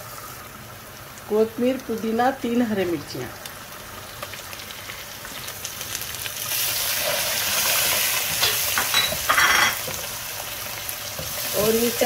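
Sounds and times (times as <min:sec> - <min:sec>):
herbs sizzling in hot oil: 0:00.0 - 0:12.0.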